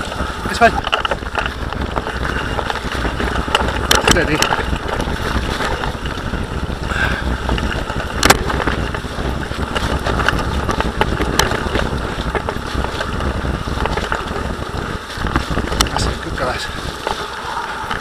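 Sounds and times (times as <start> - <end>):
bicycle knocking over bumps: 0.0 - 18.0
bicycle tyre and frame rattle: 0.0 - 18.0
wind rushing on microphone: 0.0 - 18.0.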